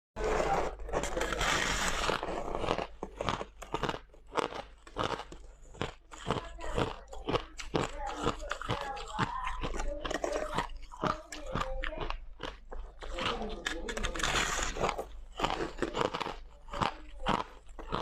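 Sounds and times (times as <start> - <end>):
ice being chewed: 0.2 - 18.0.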